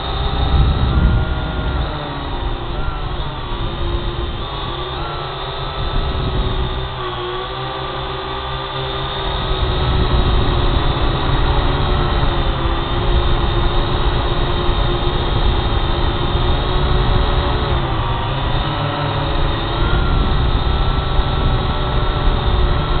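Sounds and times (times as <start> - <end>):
drone propellers whirring: 0.0 - 23.0.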